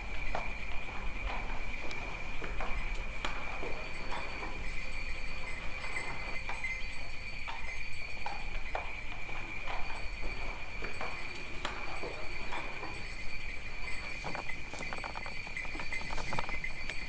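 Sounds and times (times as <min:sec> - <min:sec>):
horse hooves clip-clopping: 0:00.0 - 0:17.0
steady high ringing tone: 0:00.0 - 0:17.0.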